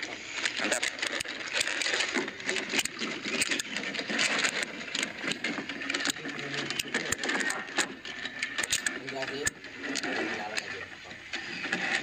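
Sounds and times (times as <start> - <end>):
wire-mesh trap rattling: 0.4 - 11.0.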